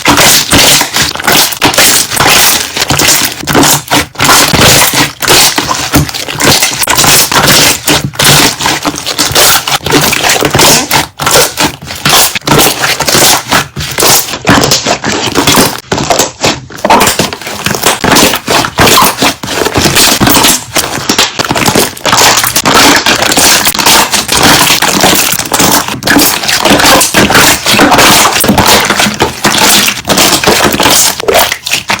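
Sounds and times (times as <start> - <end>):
air bubbles popping: 0.0 - 32.0
slime being squeezed: 0.0 - 32.0.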